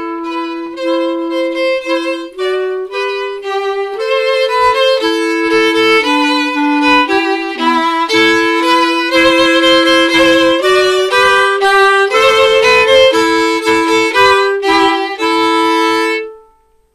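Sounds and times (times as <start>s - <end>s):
clarinet: 0.0s - 16.9s
violin: 0.0s - 16.9s.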